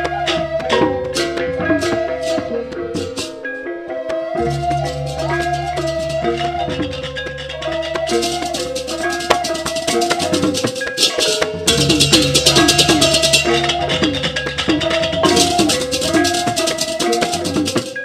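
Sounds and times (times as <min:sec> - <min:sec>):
gamelan playing: 0:00.0 - 0:18.0.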